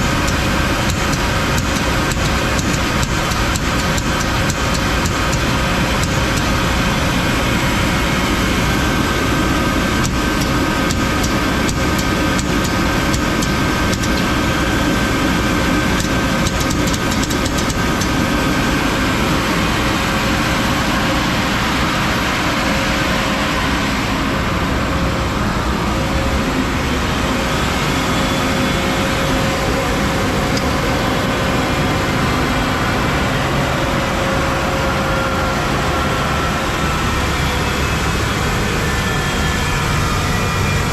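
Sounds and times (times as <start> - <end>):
belt sander drone: 0.0 - 40.9.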